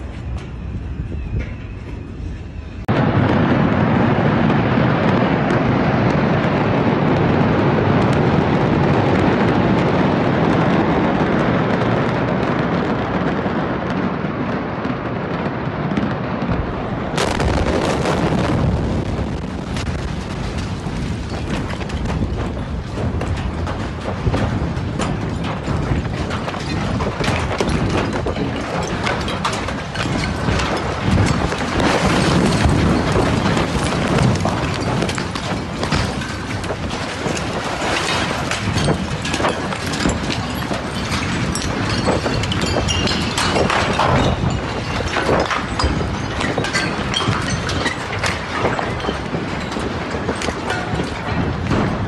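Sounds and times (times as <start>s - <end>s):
loud dense rumble: 2.1s - 47.6s
explosion blast: 2.8s - 52.0s.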